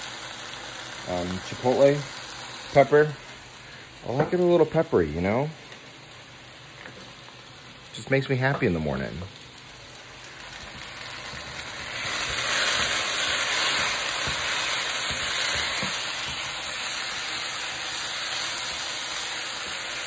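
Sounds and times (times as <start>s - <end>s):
rice sizzling in a pan: 0.0s - 20.0s.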